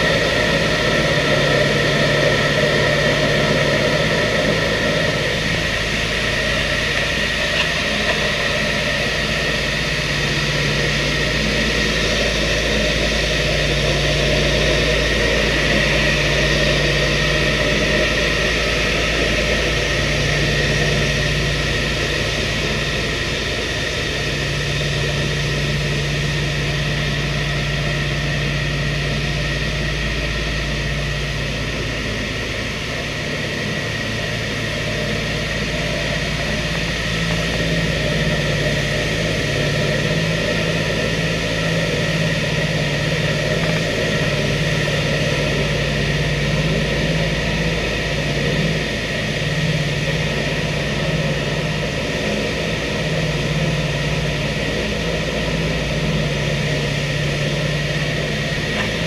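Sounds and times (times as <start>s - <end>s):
aircraft propeller engines droning: 0.0s - 59.0s.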